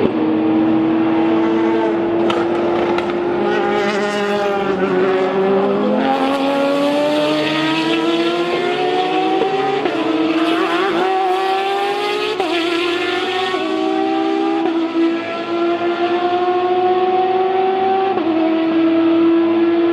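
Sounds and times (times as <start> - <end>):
race car engine accelerating: 0.0 - 19.9.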